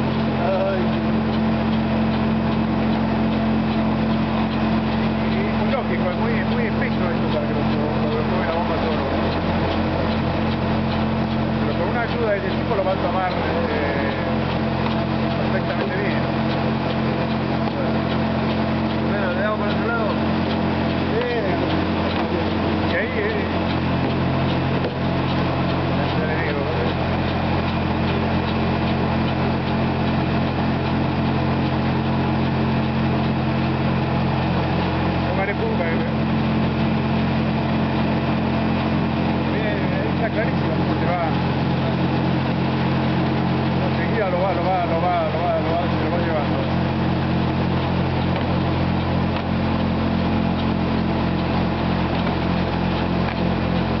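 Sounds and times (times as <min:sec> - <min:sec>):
low machine hum: 0:00.0 - 0:54.0
faint regular ticking: 0:00.1 - 0:54.0.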